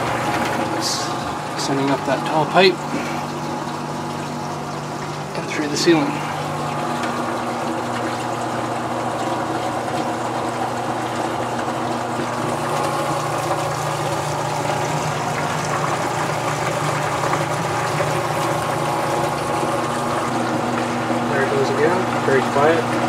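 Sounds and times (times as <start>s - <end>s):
sump pump humming: 0.0s - 23.0s
water rushing up a pipe: 0.0s - 23.0s.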